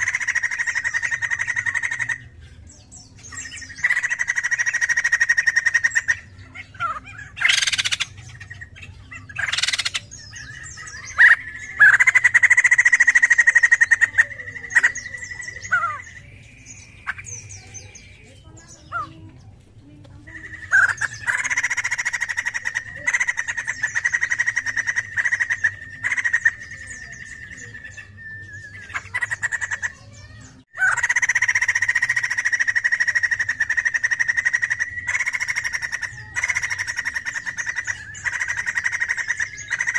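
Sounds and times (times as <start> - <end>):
bird singing repeated notes: 0.0 - 39.9.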